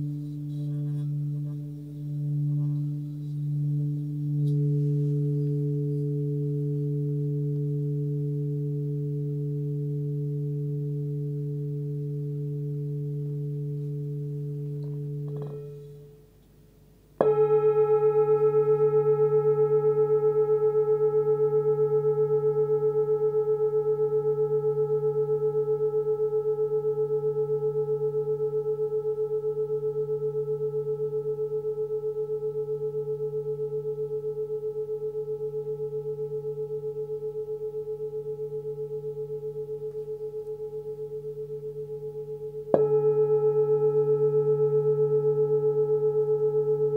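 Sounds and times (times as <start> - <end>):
singing bowl struck and ringing: 0.0 - 16.2, 17.2 - 46.9.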